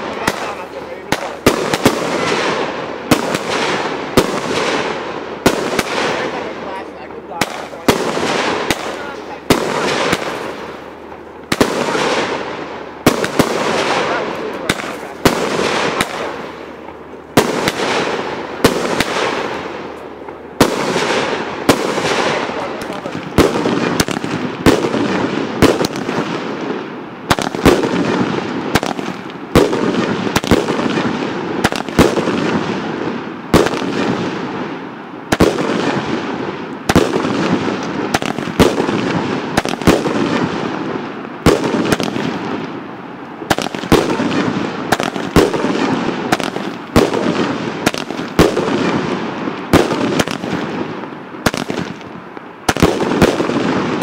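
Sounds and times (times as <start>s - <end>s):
fireworks shells bursting with bangs: 0.0s - 54.0s.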